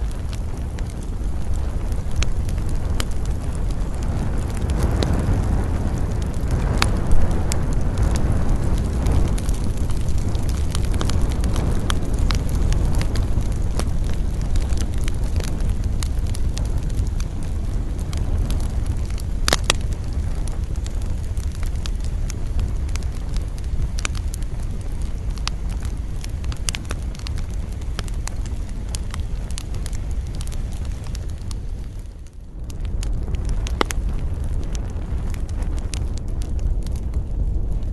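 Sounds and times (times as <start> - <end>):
campfire flames rushing: 0.0 - 37.9
fire crackling and popping: 0.0 - 37.9.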